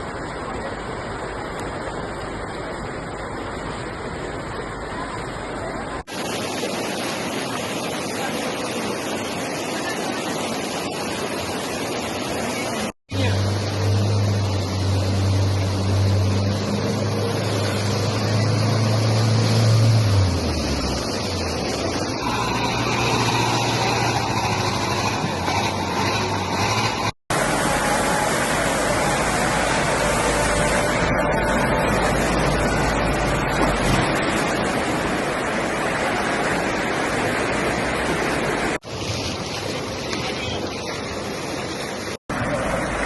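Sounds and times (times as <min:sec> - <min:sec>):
water rushing: 0:00.0 - 0:43.0.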